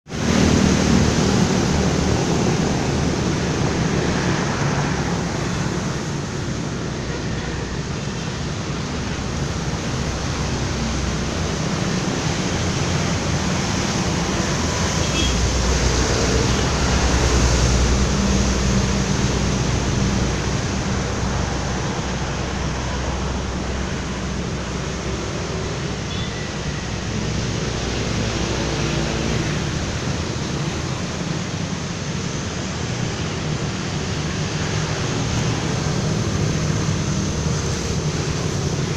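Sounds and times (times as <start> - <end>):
heavy rain and wind: 0.0 - 38.9.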